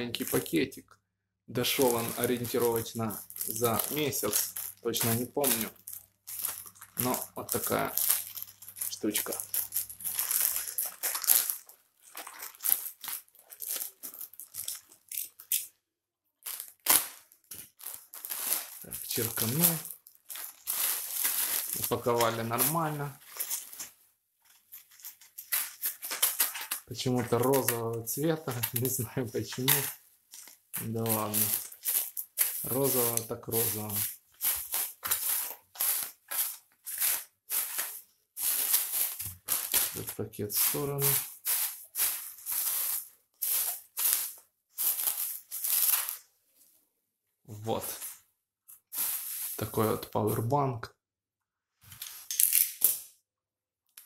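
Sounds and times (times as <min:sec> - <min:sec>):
plastic bag crinkling: 0:00.0 - 0:00.6, 0:01.6 - 0:15.6, 0:16.4 - 0:46.3, 0:48.9 - 0:50.1.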